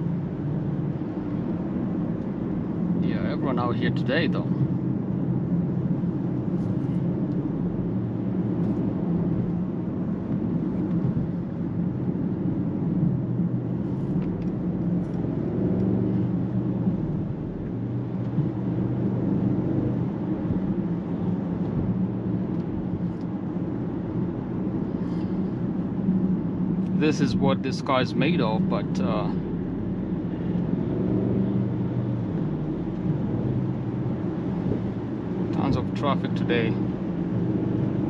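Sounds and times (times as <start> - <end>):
car engine humming: 0.0 - 38.0
tyre and road noise: 0.0 - 38.0.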